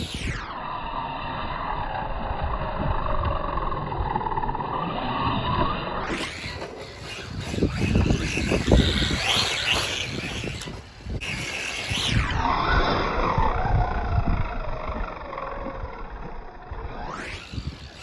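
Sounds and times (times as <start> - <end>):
electric motor whining: 0.0 - 18.0
tyres rumbling on rough ground: 2.2 - 18.0.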